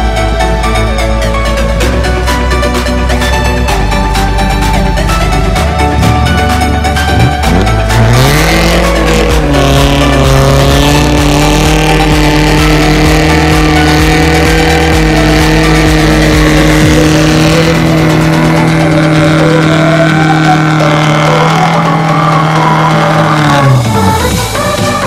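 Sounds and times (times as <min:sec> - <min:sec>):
car engine at high revs: 0:00.0 - 0:25.0
tire spinning on pavement: 0:00.0 - 0:25.0
wavering tire squeal: 0:00.0 - 0:25.0.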